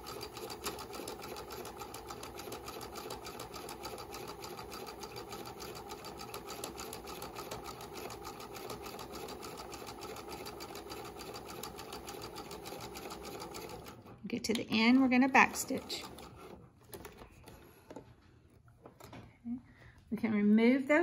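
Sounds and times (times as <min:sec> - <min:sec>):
sewing machine stitching: 0:00.0 - 0:17.8.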